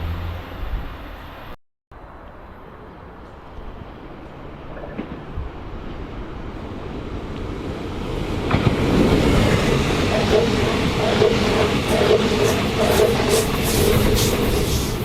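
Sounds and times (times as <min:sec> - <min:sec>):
train passing with hum: 0:00.0 - 0:15.0.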